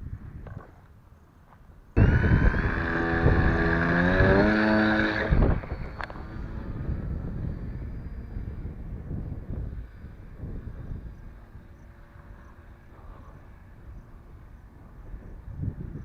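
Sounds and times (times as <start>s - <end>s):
wind noise on microphone: 0.0s - 1.1s, 1.7s - 16.0s
electric motor and propeller whine: 1.9s - 16.0s.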